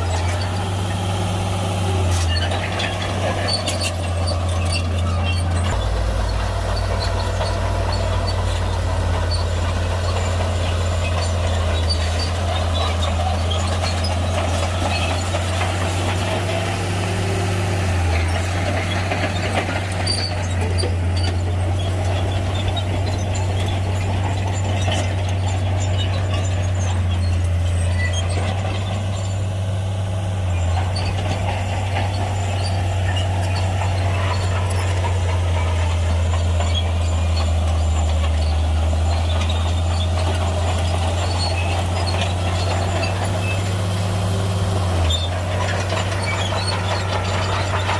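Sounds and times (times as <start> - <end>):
bulldozer diesel engine droning: 0.0 - 47.9
clattering machine noise: 0.0 - 47.9.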